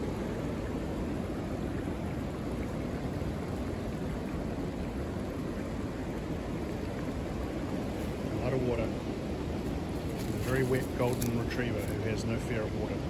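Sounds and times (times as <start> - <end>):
creek running high: 0.0 - 13.0
wind gusting through trees: 0.0 - 13.0.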